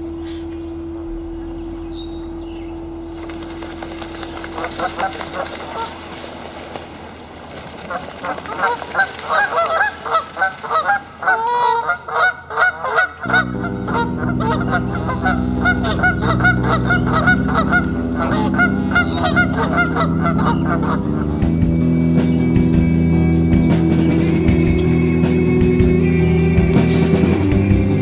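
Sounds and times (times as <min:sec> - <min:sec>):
low background music: 0:00.0 - 0:07.2, 0:12.2 - 0:28.0
geese honking: 0:00.0 - 0:28.0.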